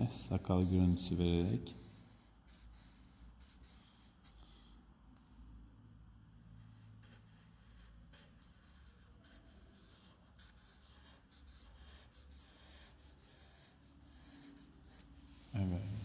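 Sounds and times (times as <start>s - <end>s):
felt tip pen scratching on paper: 0.0s - 4.4s, 6.6s - 15.6s.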